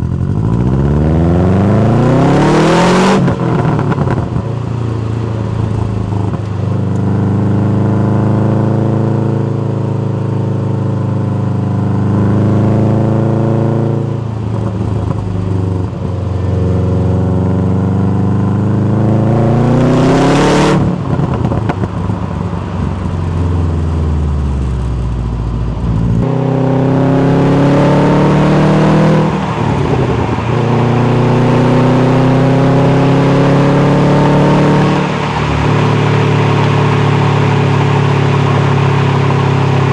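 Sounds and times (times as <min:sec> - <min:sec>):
car engine revving: 0:00.0 - 0:09.8, 0:11.6 - 0:39.9.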